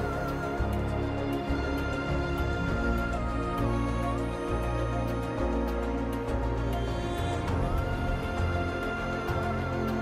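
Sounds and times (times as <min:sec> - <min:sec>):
instrumental music with sustained tones: 0:00.0 - 0:10.0.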